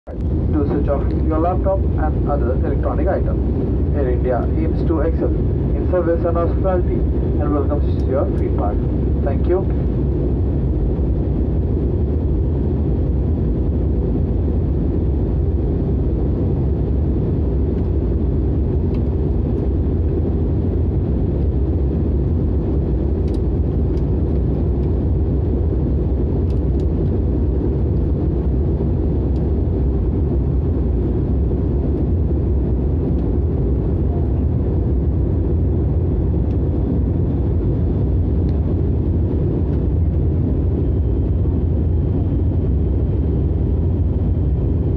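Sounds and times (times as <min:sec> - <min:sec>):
jet engines rumbling in cabin: 0:00.1 - 0:44.9.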